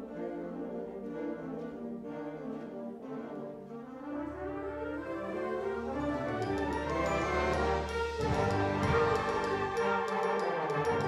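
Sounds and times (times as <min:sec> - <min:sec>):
wind band playing chords: 0:00.0 - 0:11.0.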